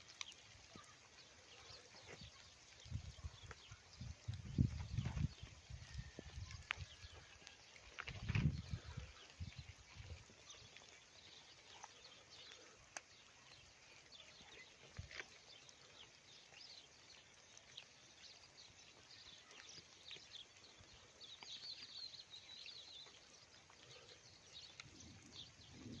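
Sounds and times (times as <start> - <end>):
faint birdsong chirps: 0.0 - 26.0.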